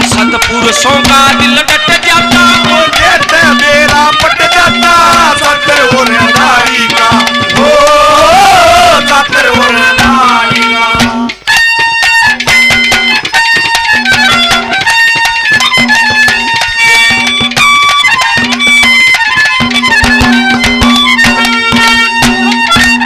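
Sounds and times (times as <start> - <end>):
drum strokes: 0.0 - 23.0
folk melody instrument: 0.0 - 23.0.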